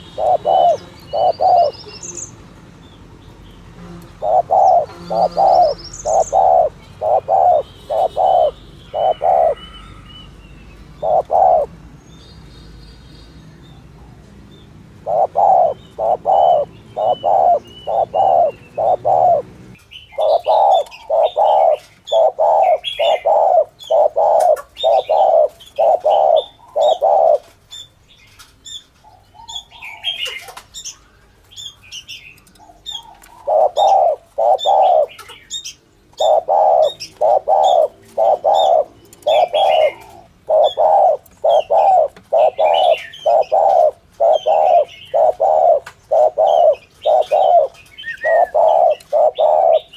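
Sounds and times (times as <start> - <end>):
dove cooing: 0.0 - 2.3, 3.8 - 10.3, 10.9 - 11.7, 15.0 - 27.6, 29.1 - 30.7, 32.6 - 49.9
small birds chirping faintly: 0.0 - 49.9.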